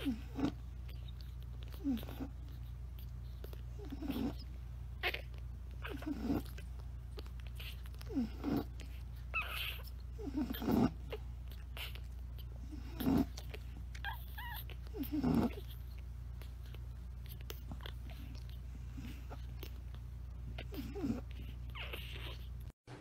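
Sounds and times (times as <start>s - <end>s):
puppy whimpering: 0.0s - 22.8s
puppies grunting and squeaking: 0.0s - 23.0s.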